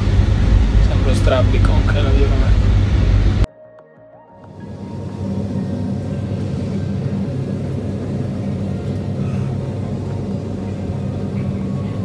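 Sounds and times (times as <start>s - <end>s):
low hum: 0.0s - 3.5s, 4.4s - 12.0s
train rumbling: 0.0s - 3.5s, 4.5s - 12.0s.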